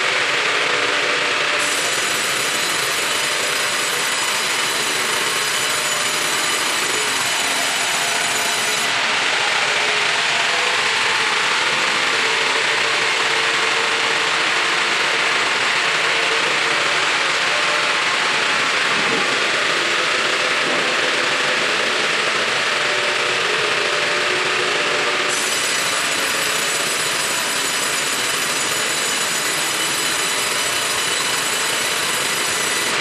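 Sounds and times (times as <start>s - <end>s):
sawmill cutting wood: 0.0s - 33.0s.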